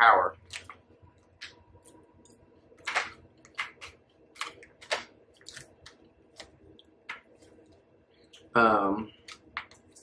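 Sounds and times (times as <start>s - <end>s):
person chewing food: 0.4s - 8.5s, 9.1s - 10.0s.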